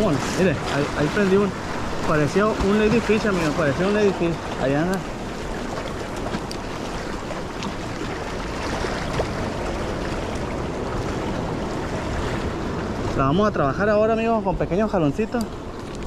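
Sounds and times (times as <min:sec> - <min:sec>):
surf splashing against rocks: 0:00.0 - 0:16.0.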